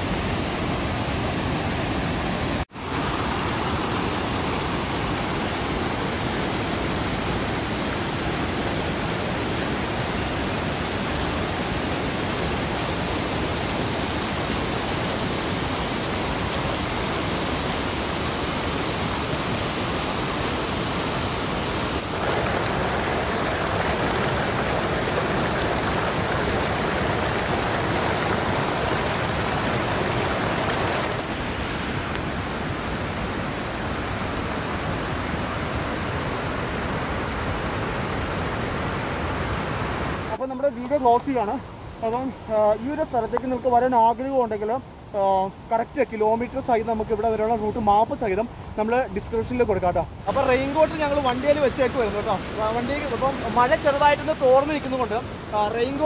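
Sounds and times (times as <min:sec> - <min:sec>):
waterfall rushing: 0:00.0 - 0:44.6, 0:50.2 - 0:56.0.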